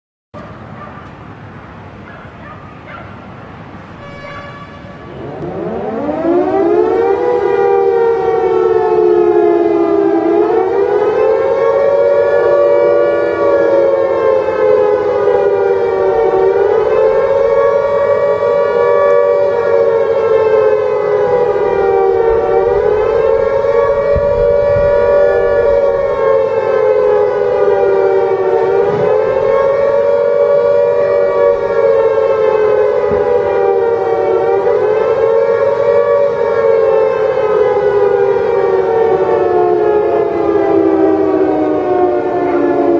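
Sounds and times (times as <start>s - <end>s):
siren wailing: 4.0s - 42.9s.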